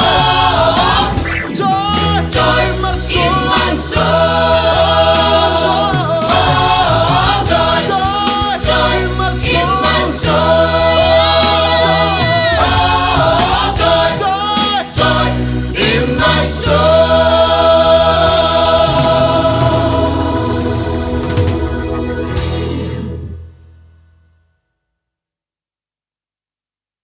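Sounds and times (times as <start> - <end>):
choir singing held notes: 0.0 - 23.4
bass and band accompaniment: 0.0 - 24.2.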